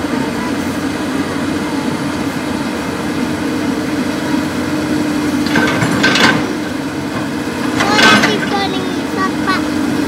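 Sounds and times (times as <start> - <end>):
excavator diesel engine droning: 0.0 - 10.0.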